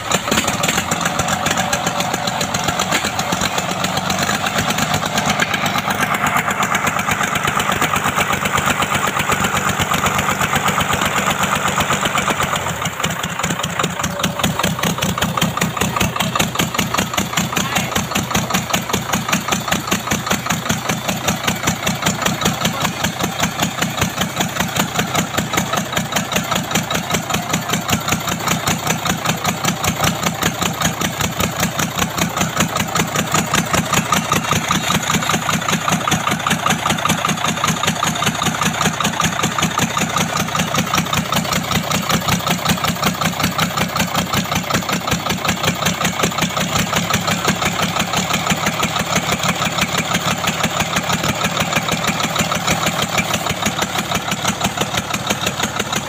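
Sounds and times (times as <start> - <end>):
diesel engine idling: 0.0 - 56.0
rapid exhaust pulsing: 0.0 - 56.0.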